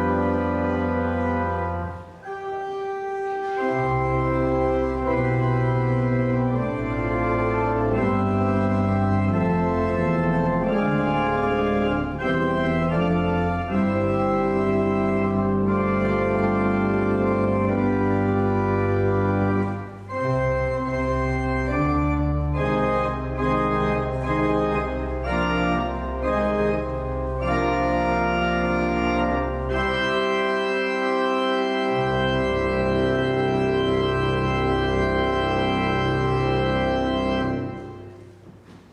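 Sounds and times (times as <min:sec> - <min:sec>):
organ bass pedal notes: 0:00.0 - 0:38.4
organ playing sustained chords: 0:00.0 - 0:38.9.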